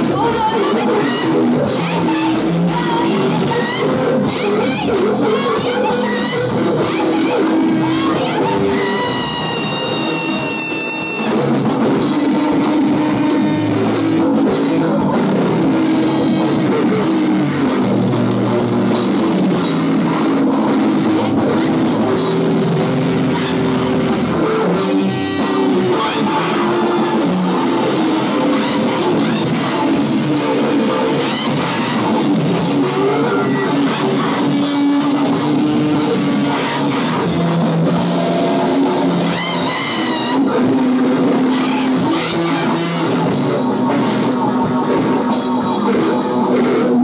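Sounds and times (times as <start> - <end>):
rock band playing loud: 0.0 - 47.0.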